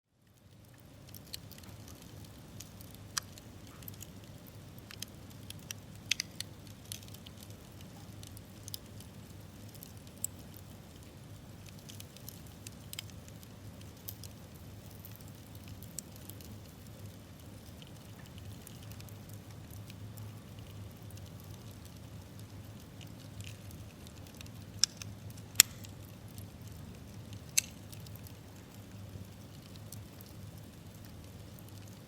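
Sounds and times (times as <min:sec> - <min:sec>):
fire low rumble: 0:00.1 - 0:32.0
campfire crackling and popping: 0:00.2 - 0:32.0.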